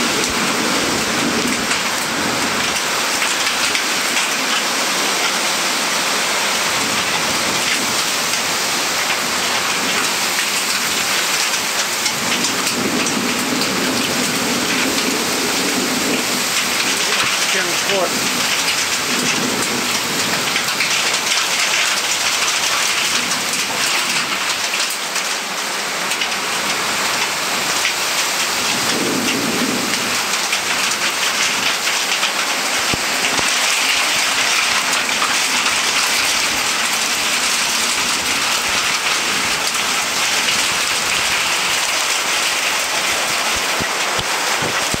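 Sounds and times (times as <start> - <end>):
heavy rain in windstorm: 0.0 - 45.0.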